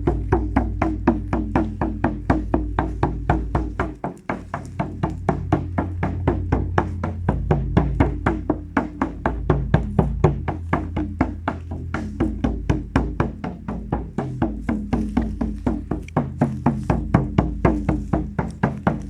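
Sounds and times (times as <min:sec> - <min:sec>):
fast percussion beat: 0:00.0 - 0:19.0
low steady drone: 0:00.0 - 0:19.0.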